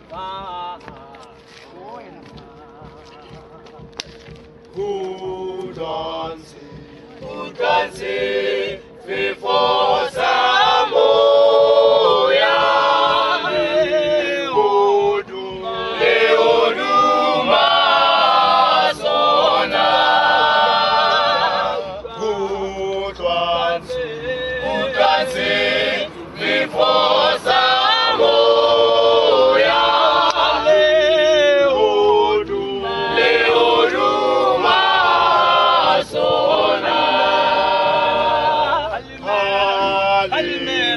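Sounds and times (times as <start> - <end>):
male vocal group singing a cappella: 0.0 - 1.6, 4.7 - 40.9.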